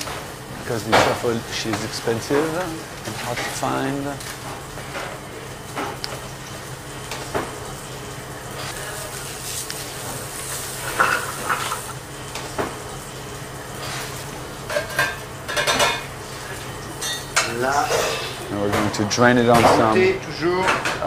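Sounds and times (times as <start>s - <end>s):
foie gras sizzling in a pan: 0.0s - 18.6s.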